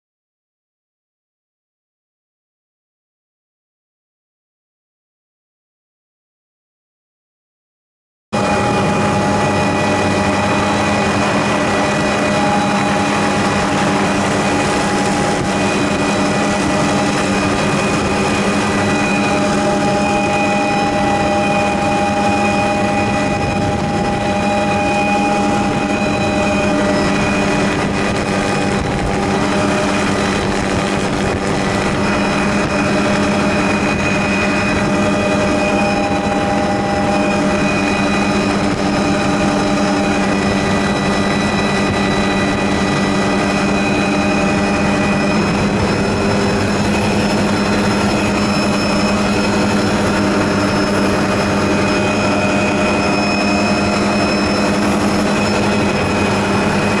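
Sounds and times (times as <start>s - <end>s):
helicopter engine whine: 8.4s - 57.0s
rotor and wind noise: 8.4s - 57.0s.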